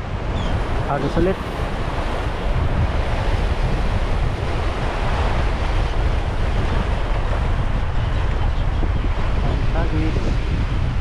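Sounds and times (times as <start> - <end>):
sea surf washing in: 0.0 - 11.0
wind buffeting microphone: 0.0 - 11.0.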